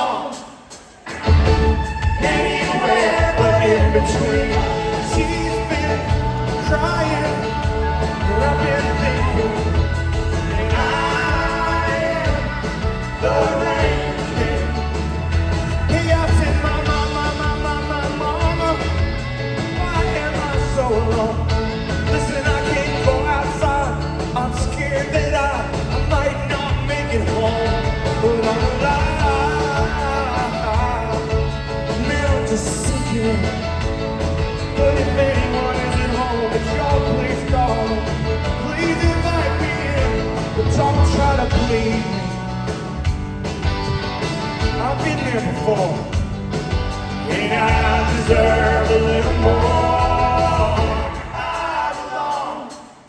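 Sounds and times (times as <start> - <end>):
rock band playing live: 0.0 - 53.0
person singing: 1.8 - 33.8, 34.6 - 42.5, 47.2 - 53.0.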